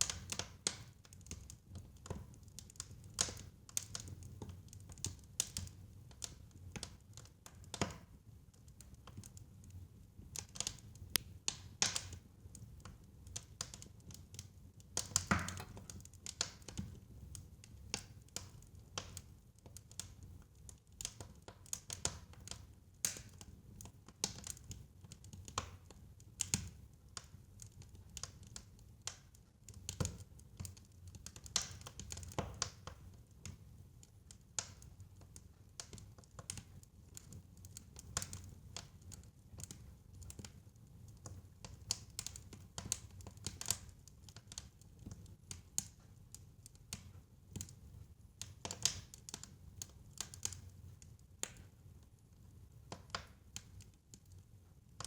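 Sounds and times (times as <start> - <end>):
fire crackling: 0.0 - 9.5, 10.2 - 54.4.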